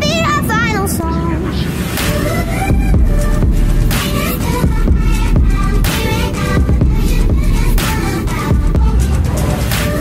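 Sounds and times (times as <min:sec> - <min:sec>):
electronic music with heavy bass: 0:00.7 - 0:10.0.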